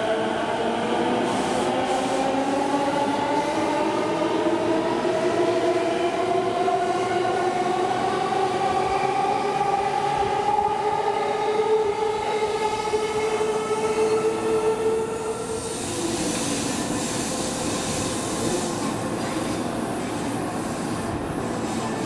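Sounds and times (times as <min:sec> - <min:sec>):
rumble of train cars: 0:00.0 - 0:22.0.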